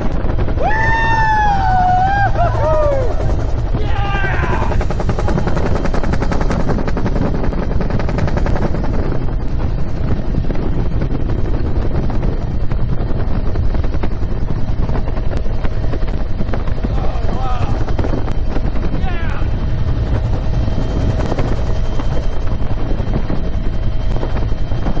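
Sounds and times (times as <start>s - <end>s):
helicopter rotor thumping: 0.0s - 25.0s
low engine rumble: 0.0s - 25.0s
wind buffeting microphone: 0.0s - 25.0s.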